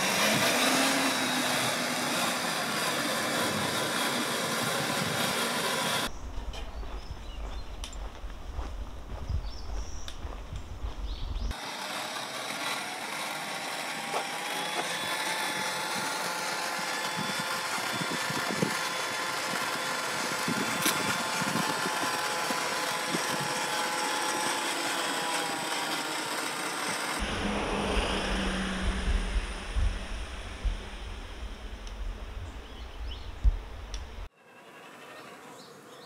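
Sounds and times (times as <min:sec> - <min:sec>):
electric motor and gears whining: 0:00.0 - 0:34.3
outdoor background noise: 0:00.0 - 0:36.0.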